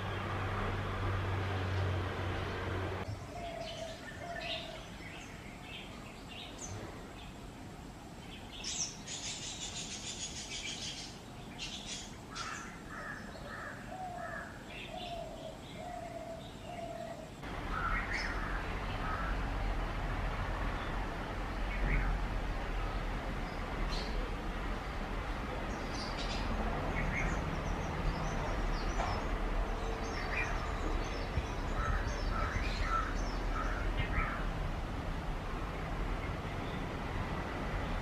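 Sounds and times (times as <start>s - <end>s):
birds calling and chattering: 0.0s - 20.0s, 20.6s - 34.7s.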